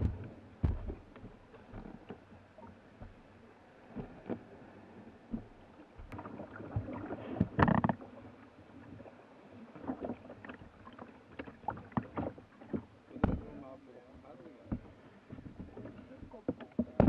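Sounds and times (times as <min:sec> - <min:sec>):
water slapping against kayak: 0:00.0 - 0:17.0.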